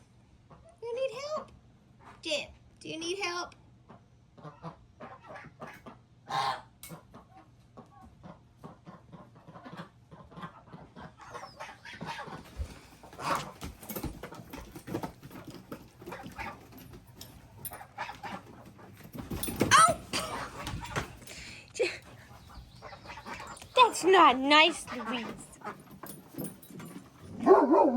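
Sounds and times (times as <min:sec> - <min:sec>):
chickens clucking: 0:03.8 - 0:27.4.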